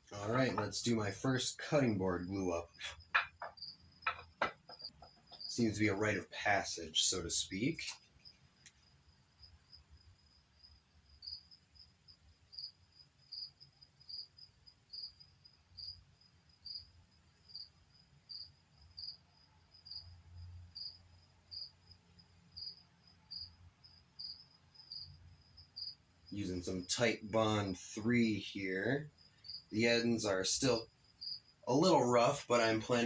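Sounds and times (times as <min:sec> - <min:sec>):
cricket chirping: 0:00.1 - 0:33.0.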